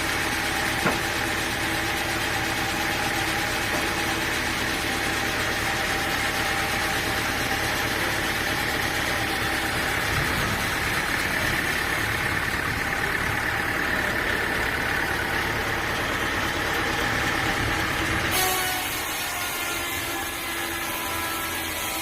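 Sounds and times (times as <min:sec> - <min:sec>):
sawmill engine drone: 0:00.0 - 0:22.0.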